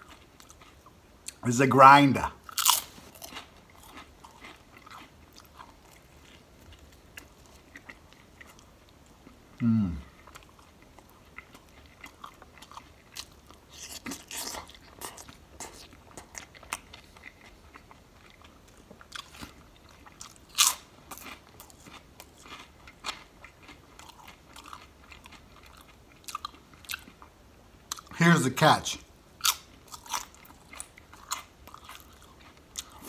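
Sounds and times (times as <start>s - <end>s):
crunching sandwich bites: 2.4s - 8.7s, 9.3s - 27.3s, 29.4s - 33.0s.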